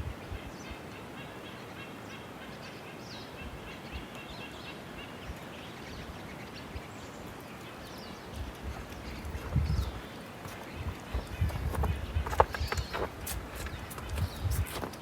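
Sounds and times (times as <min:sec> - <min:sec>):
small birds chirping faintly: 0:00.0 - 0:15.0
steady outdoor hiss: 0:00.0 - 0:15.0.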